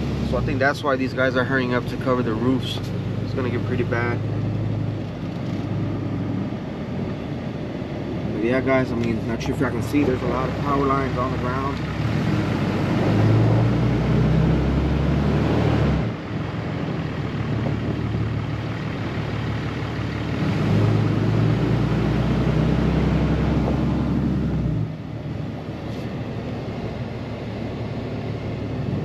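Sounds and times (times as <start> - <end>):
low engine hum: 0.0 - 29.0
road and wind noise: 0.0 - 29.0.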